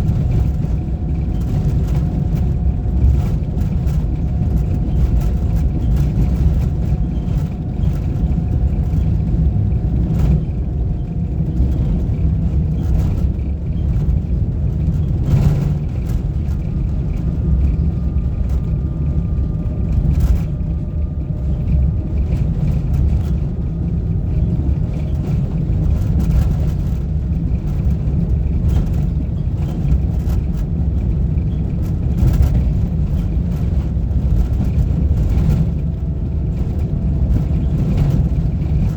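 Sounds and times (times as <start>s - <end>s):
vehicle engine and tyres rumbling: 0.0s - 38.9s.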